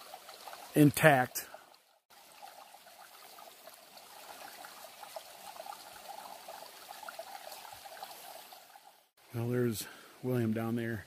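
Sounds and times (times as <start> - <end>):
creek babbling over rocks: 0.0 - 9.5.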